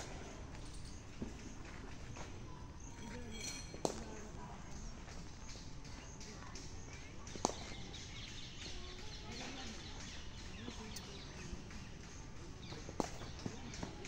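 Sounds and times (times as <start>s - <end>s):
distant voices: 0.0s - 14.0s.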